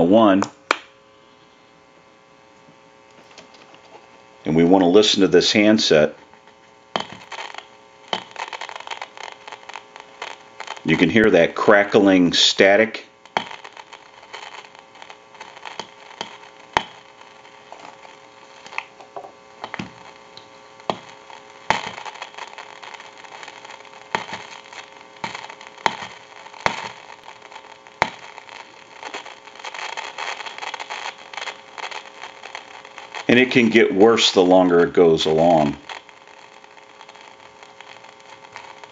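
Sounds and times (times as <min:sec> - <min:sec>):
crackling hissing static with pops: 0:00.0 - 0:38.9
faint amplifier hum: 0:00.0 - 0:38.9.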